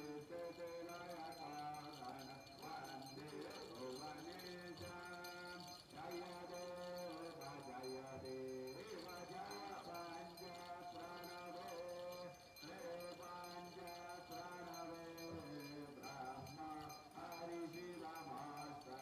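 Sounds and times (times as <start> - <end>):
man chanting a hymn: 0.0 - 19.0
small hand bell ringing: 0.0 - 19.0.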